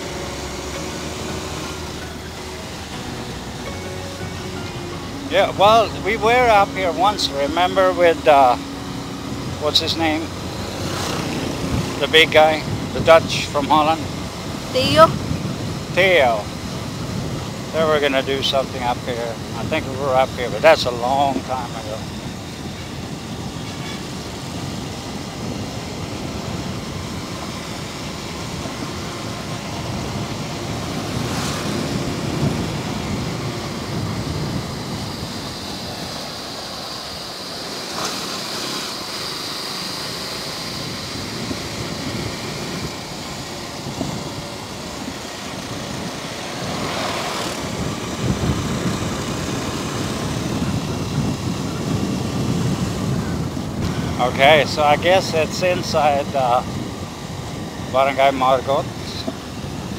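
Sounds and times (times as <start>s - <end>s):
motorcycle engine drone: 0.0s - 59.9s
passing traffic: 0.0s - 59.9s
road and wind noise: 0.0s - 59.9s.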